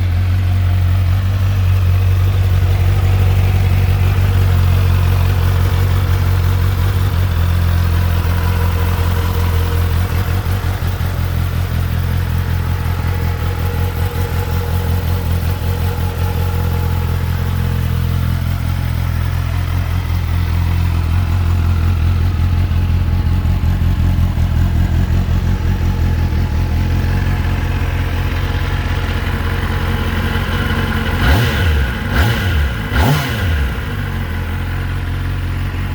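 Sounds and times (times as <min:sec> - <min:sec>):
motorcycle engine idling: 0:00.0 - 0:35.9
motorcycle engine revving: 0:00.0 - 0:35.9.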